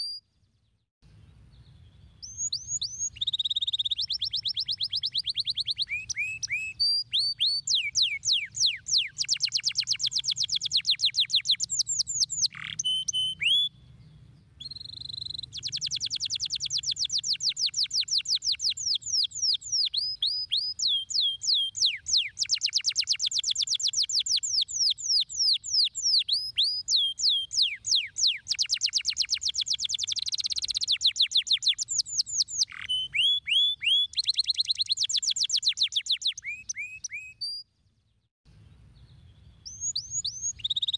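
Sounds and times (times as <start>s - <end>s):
canary singing trills: 1.6s - 37.7s, 39.0s - 40.9s.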